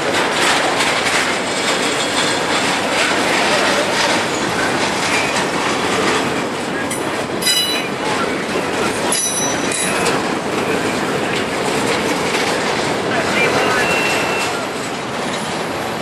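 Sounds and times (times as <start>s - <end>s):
container train rumbling and rattling: 0.0s - 16.0s.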